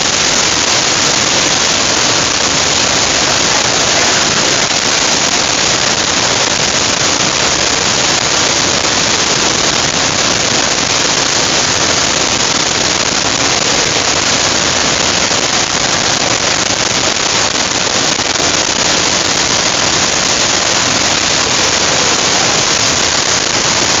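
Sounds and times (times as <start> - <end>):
rush of falling water: 0.0 - 24.0.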